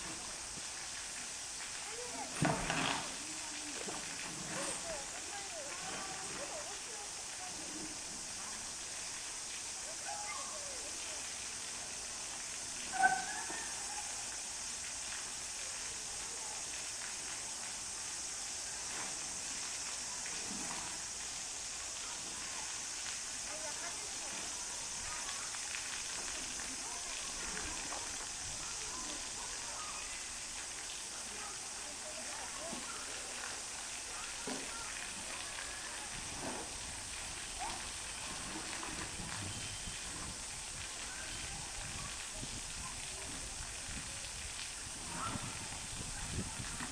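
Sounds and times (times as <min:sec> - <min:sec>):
faint distant voices: 0:00.0 - 0:46.9
steady high hiss: 0:00.0 - 0:46.9.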